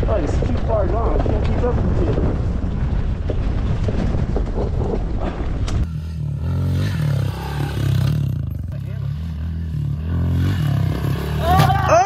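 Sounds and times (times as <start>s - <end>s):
bumps and rattles: 0.0s - 11.9s
dirt bike engine running: 0.0s - 12.0s.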